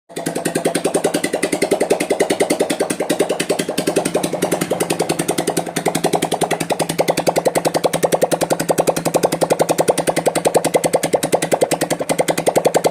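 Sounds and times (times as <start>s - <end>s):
motorcycle engine idling: 0.1s - 12.9s.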